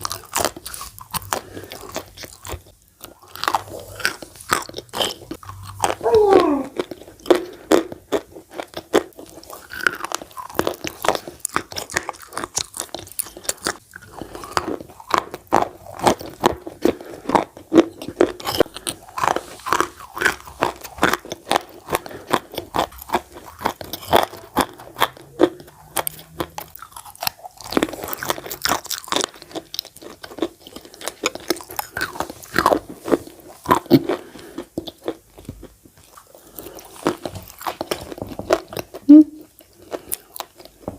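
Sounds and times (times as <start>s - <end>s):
chalk crunching while chewed: 0.0s - 6.0s, 6.6s - 40.9s.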